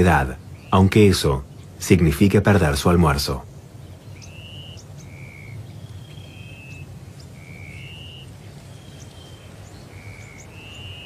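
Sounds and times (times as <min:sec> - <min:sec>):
birds whistling: 0:00.0 - 0:02.1, 0:03.4 - 0:11.0
thin rising bird chirps: 0:00.0 - 0:02.1, 0:03.4 - 0:11.0.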